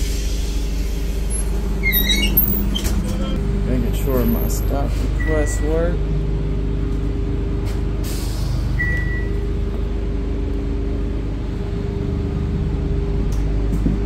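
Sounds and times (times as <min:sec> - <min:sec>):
bus idling drone: 0:00.0 - 0:14.0.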